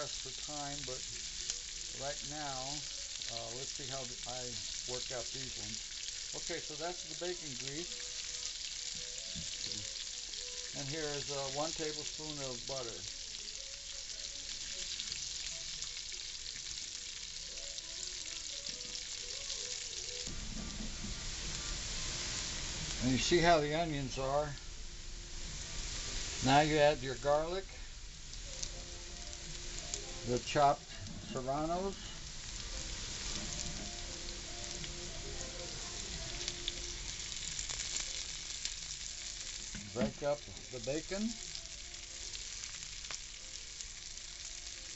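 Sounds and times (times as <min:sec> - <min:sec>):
food sizzling in a frying pan: 0:00.0 - 0:44.9.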